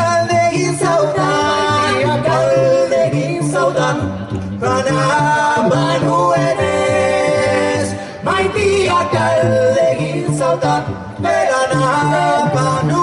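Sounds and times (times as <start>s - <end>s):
a cappella group singing harmony: 0.0s - 13.0s.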